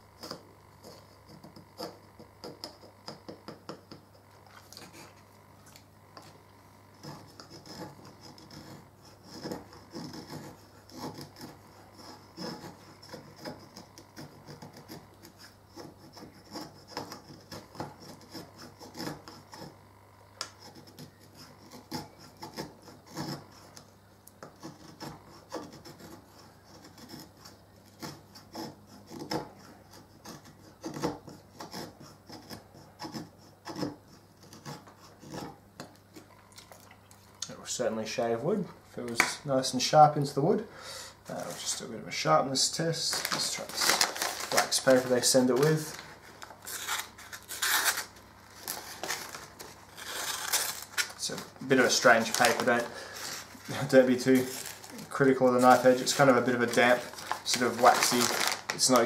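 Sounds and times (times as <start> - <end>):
knife shaving wood: 0.0 - 36.8, 40.1 - 59.0.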